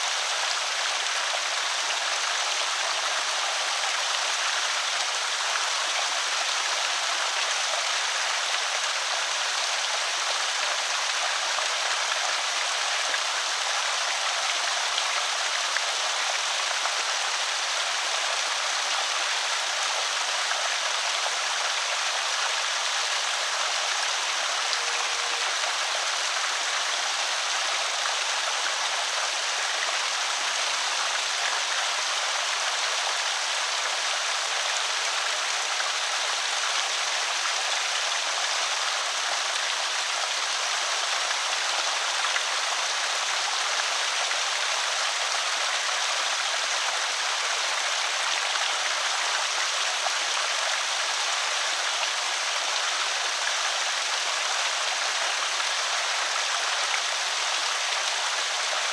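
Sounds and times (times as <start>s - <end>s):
creek water pouring and splashing: 0.0s - 58.9s.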